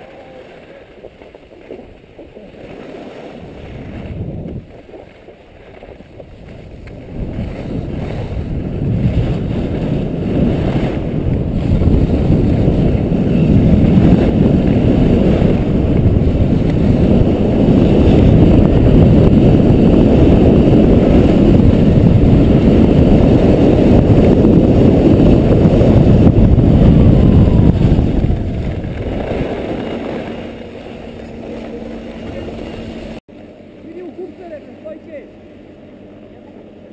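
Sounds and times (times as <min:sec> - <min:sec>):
wind buffeting microphone: 0:00.0 - 0:33.2.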